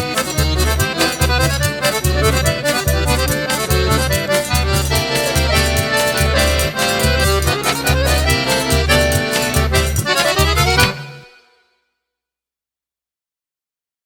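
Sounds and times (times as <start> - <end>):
accordion melody: 0.0 - 11.8.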